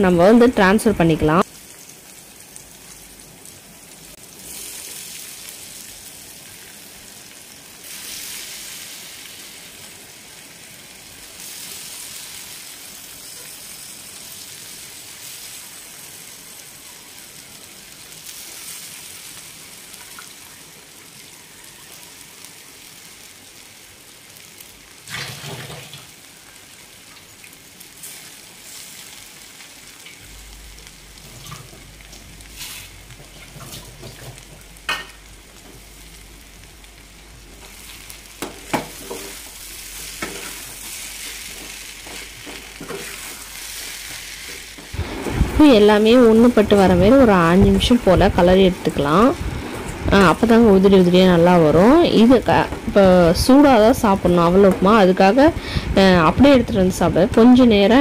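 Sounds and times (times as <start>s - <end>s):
rice sizzling in hot oil: 0.2s - 58.0s.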